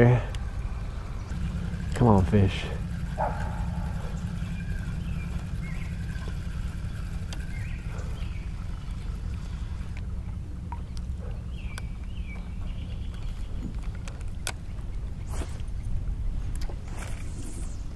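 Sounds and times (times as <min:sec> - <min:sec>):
birds chirping: 0:00.0 - 0:17.9
low rumble: 0:00.0 - 0:17.9.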